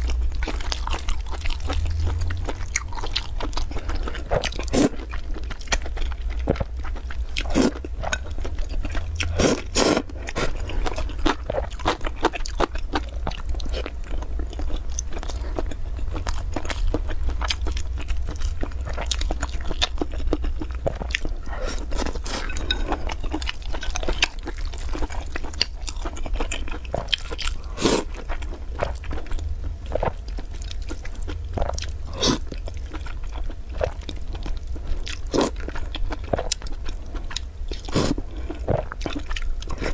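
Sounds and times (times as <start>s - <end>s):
food being chewed: 0.0s - 39.9s
steady low hum: 0.0s - 39.9s.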